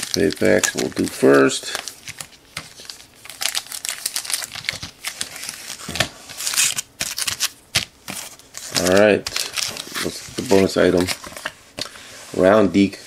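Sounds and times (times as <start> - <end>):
foil wrappers crinkling: 0.0 - 12.0.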